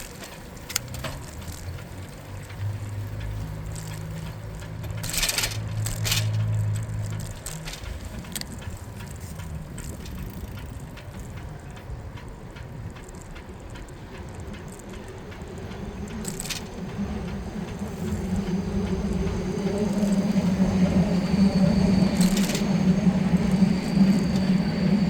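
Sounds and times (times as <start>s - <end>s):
bicycle tyre and road rumble: 0.0s - 25.0s
bike rattles and clicks: 0.0s - 25.0s
low vehicle hum: 0.0s - 25.0s.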